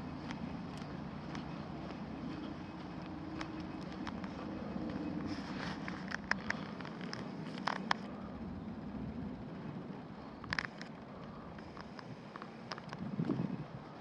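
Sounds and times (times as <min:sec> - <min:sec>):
low rumble of distant traffic: 0:00.0 - 0:14.0.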